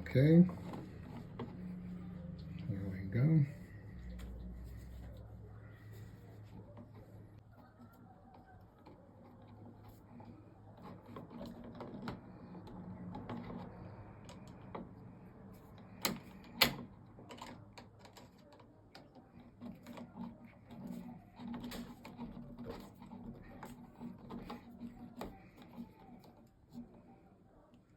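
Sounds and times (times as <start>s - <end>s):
tools and plastic trim rattling: 0.0s - 3.5s, 5.9s - 27.1s
low steady hum: 0.0s - 27.9s.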